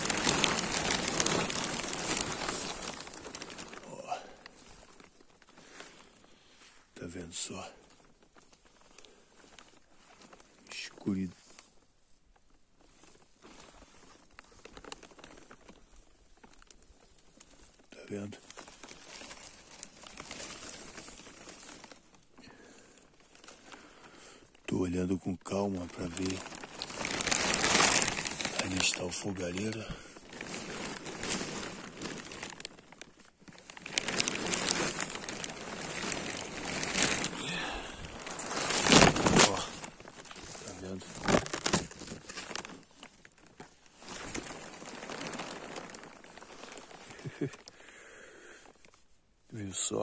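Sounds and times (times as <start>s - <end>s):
dry grass and leaves rustling: 0.0s - 49.2s
plastic sheeting crinkling: 0.0s - 50.0s.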